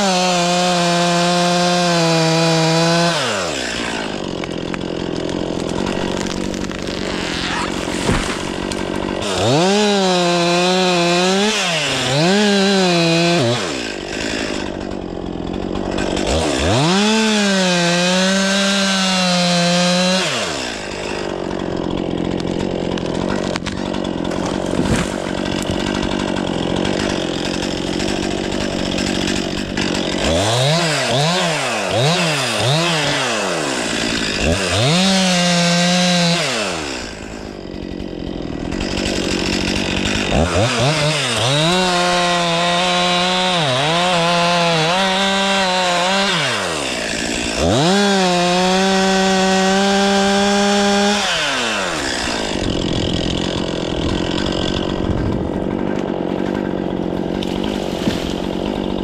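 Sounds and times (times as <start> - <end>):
chainsaw cutting wood: 0.0 - 59.0
chainsaw engine revving: 0.0 - 59.0.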